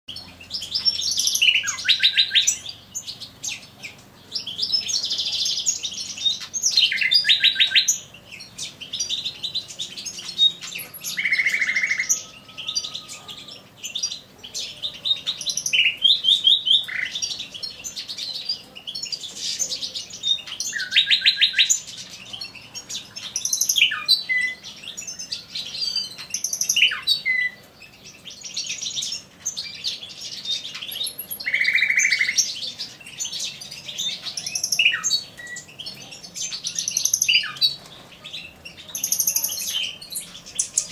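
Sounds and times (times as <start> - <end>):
nightingale singing: 0.1 - 40.9.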